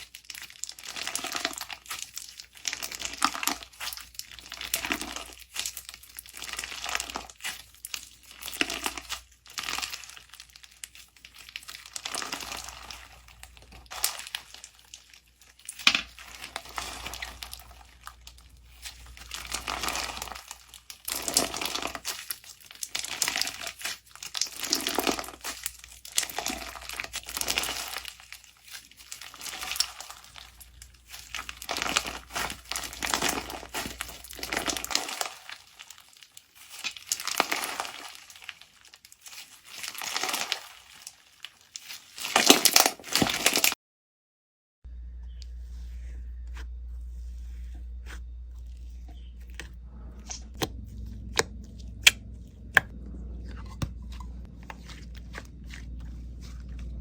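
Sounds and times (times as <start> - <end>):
slime squishing by hand: 0.0 - 43.8, 44.9 - 57.0.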